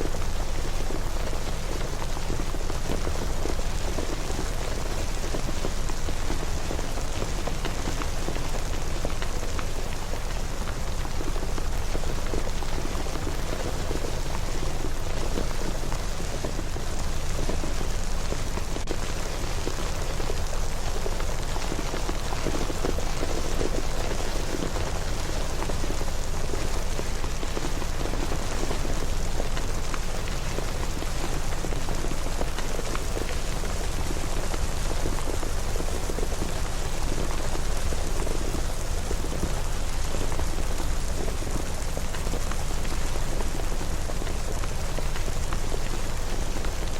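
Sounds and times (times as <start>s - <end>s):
rain pattering: 0.0s - 46.9s.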